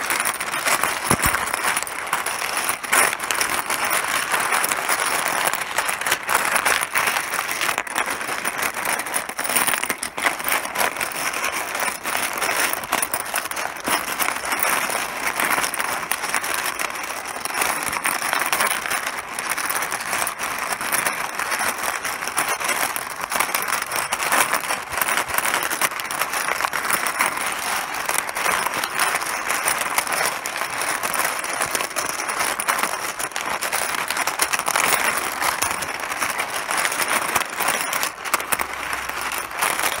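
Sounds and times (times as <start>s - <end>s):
mahjong pieces clattering: 0.0s - 40.0s.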